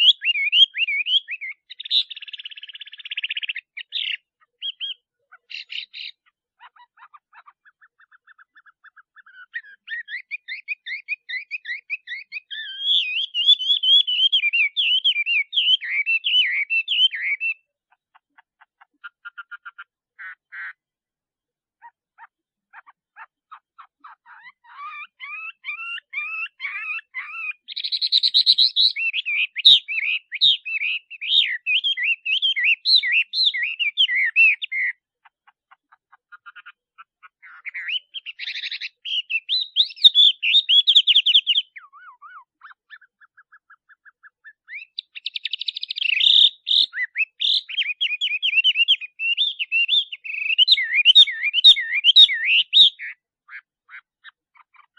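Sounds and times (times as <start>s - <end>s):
bird singing whistled trills: 0.0s - 17.7s, 23.8s - 35.0s, 37.5s - 54.9s.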